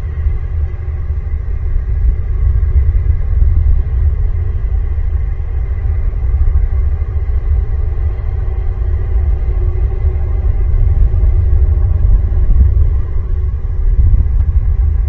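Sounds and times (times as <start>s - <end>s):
loud steady low rumble: 0.0s - 15.0s.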